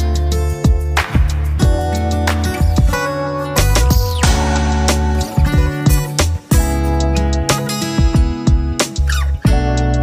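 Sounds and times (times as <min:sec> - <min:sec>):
plucked guitar: 0:00.0 - 0:10.0
steady bass line: 0:00.0 - 0:10.0.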